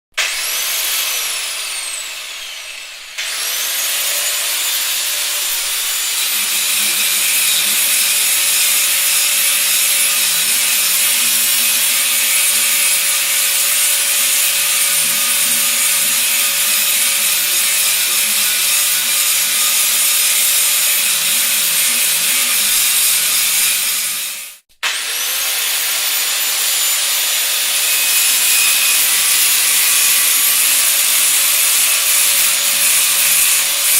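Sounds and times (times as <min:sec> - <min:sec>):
circular saw cutting: 0:00.1 - 0:33.9
circular saw whining: 0:00.2 - 0:33.9.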